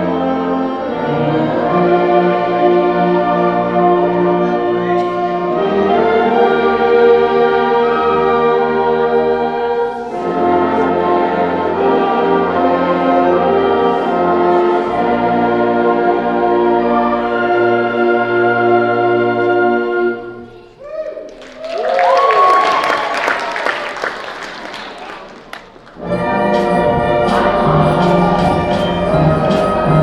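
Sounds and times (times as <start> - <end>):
band playing brass chords: 0.0 - 20.4, 25.7 - 30.0.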